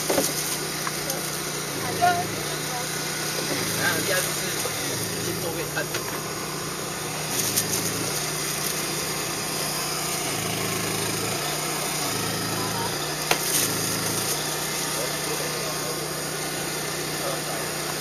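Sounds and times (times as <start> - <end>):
gas burner hissing: 0.0 - 18.0.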